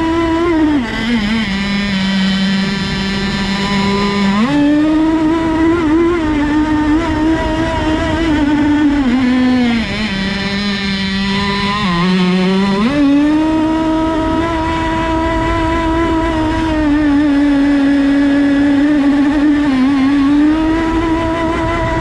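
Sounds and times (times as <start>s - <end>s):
two-stroke boat engine revving: 0.0s - 22.0s.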